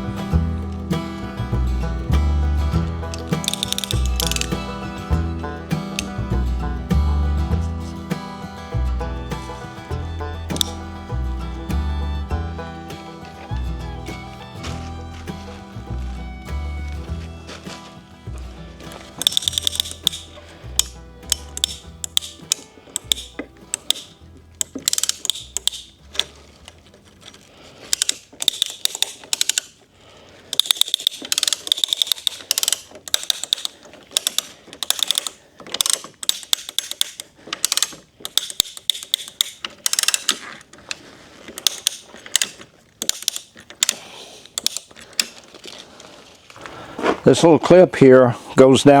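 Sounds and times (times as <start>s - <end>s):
strapping tensioner ratcheting clicks: 0.0s - 17.2s, 18.3s - 29.9s, 30.5s - 45.8s.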